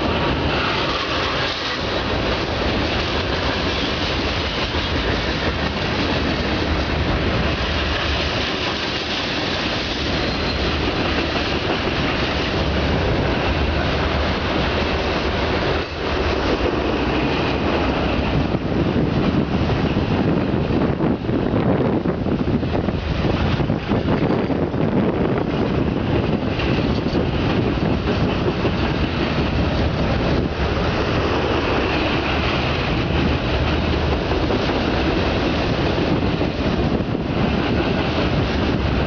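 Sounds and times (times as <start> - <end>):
freight train wheels on rails: 0.0 - 39.0.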